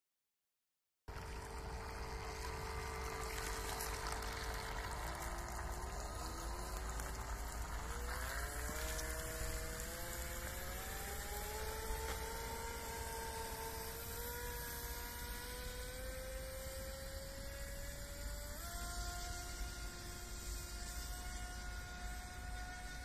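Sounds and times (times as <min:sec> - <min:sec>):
toy speedboat motor whining: 0:01.1 - 0:23.0.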